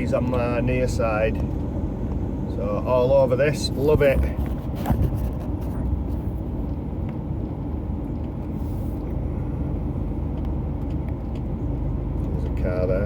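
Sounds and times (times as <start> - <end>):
lorry engine and road rumble: 0.0 - 13.0.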